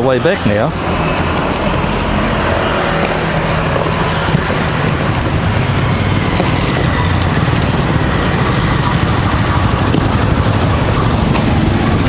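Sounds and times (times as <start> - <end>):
low engines running: 0.0 - 12.0
street traffic noise: 0.0 - 12.0.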